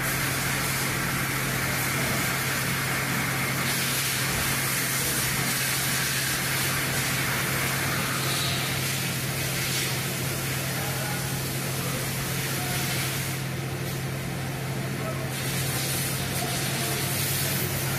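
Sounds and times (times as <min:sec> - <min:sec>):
machine hiss: 0:00.0 - 0:14.1, 0:15.3 - 0:17.9
low machine hum: 0:00.0 - 0:17.9.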